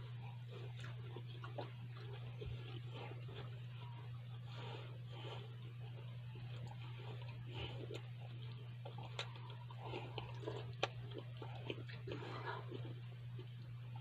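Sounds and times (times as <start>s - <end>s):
low hum: 0.0s - 14.0s
person chewing: 0.0s - 14.0s.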